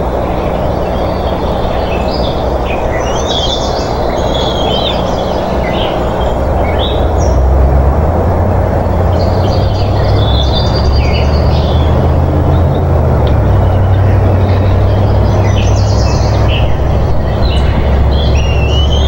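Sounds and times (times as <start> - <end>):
birds chirping: 0.0 - 19.0
low hum: 0.0 - 19.0
steady rushing noise: 0.0 - 19.0.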